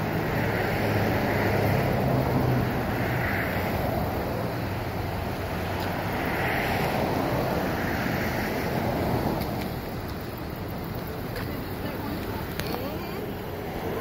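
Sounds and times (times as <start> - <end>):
highway traffic rushing: 0.0 - 14.0.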